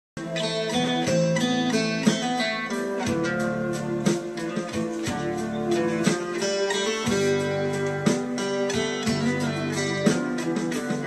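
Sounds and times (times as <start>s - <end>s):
acoustic guitar music: 0.2s - 11.0s.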